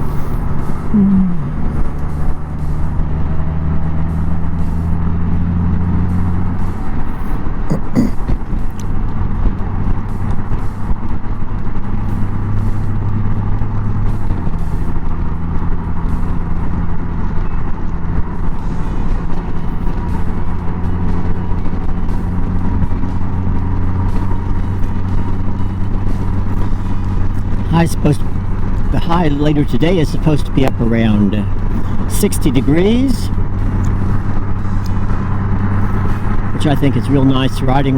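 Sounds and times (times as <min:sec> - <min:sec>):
motorcycle engine humming: 0:00.0 - 0:37.9
road noise: 0:00.0 - 0:37.9.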